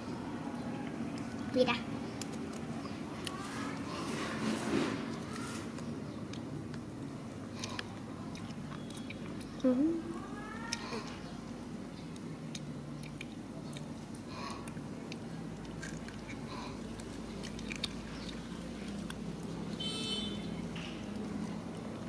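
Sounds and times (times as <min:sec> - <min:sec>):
soft chewing and mouth clicks: 0:00.5 - 0:04.3, 0:05.1 - 0:19.8, 0:20.7 - 0:22.0.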